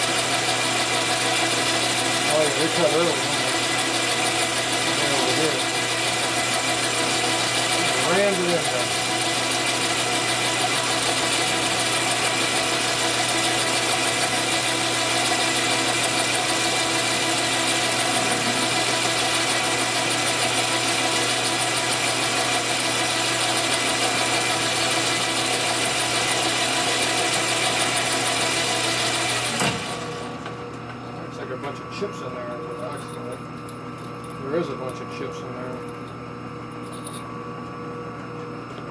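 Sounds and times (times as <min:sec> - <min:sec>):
metal lathe running: 0:00.0 - 0:37.4.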